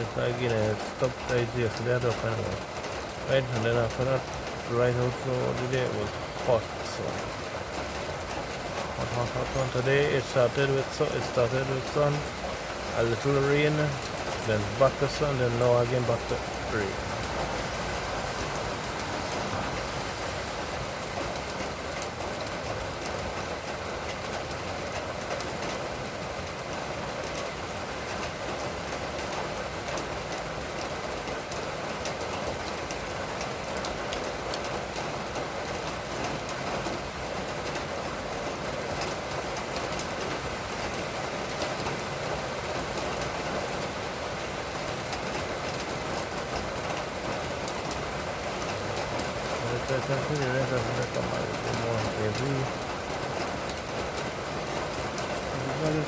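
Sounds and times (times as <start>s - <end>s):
raindrops ticking: 0.0s - 56.0s
steady rain hiss: 0.0s - 56.0s.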